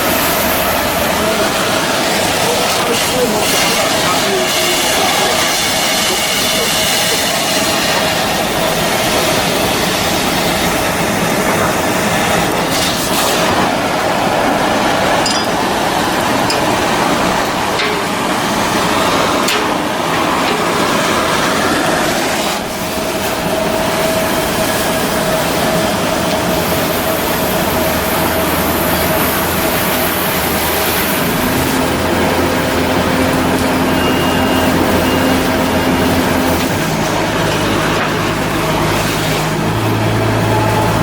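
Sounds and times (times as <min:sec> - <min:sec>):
loud machinery noise: 0:00.0 - 0:41.0
steady hums: 0:00.0 - 0:41.0.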